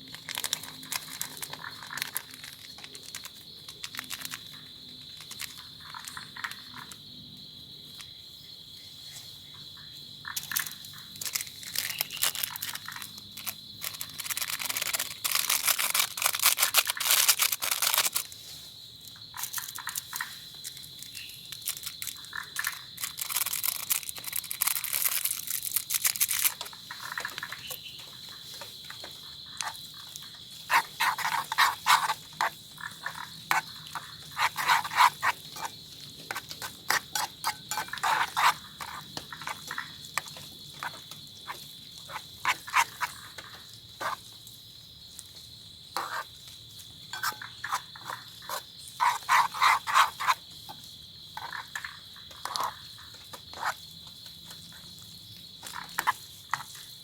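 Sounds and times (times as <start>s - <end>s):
frogs croaking: 0.0s - 57.0s
high-pitched insect trill: 0.0s - 57.0s.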